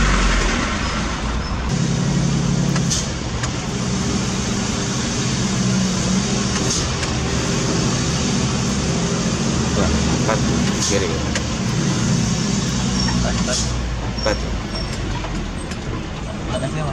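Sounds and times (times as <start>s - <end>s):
heavy diesel engine running: 0.0s - 16.9s.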